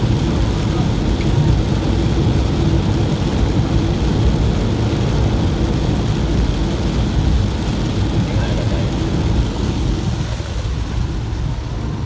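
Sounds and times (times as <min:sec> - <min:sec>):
car engine: 0:00.0 - 0:12.0
rain on windscreen: 0:00.0 - 0:12.0
tyres on wet road: 0:00.0 - 0:12.0.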